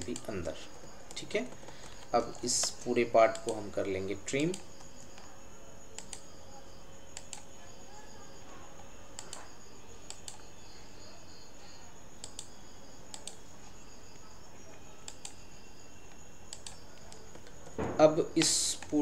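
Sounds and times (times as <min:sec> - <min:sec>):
faint high-pitched electrical hiss: 0:00.0 - 0:19.0.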